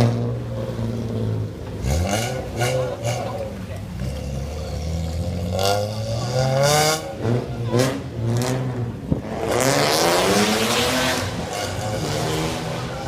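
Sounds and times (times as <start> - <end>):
car exhaust revving: 0.0 - 13.0.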